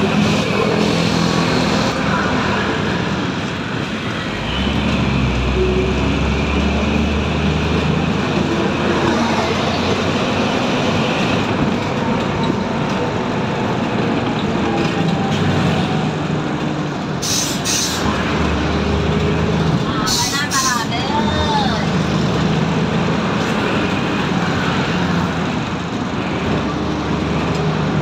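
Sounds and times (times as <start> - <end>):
bus engine hum: 0.0 - 28.0
road rumble: 0.0 - 28.0.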